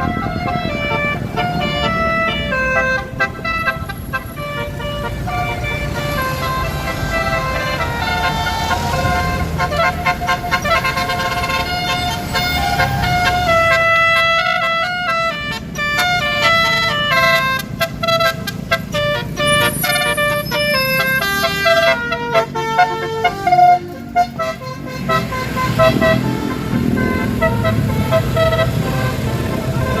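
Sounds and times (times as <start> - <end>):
bus engine running: 0.0 - 30.0
bus musical horn melody: 0.0 - 30.0.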